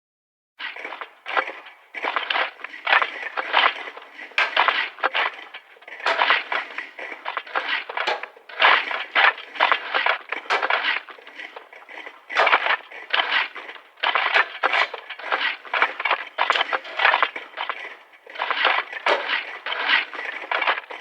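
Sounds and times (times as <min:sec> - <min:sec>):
shovels digging soil: 0:00.6 - 0:21.0.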